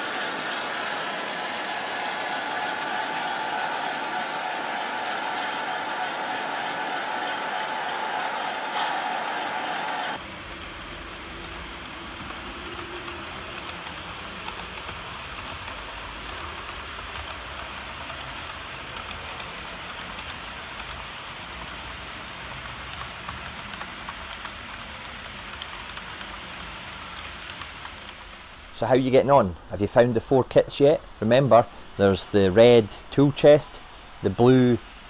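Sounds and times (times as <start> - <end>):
model train wheels rattling: 0.0 - 28.5.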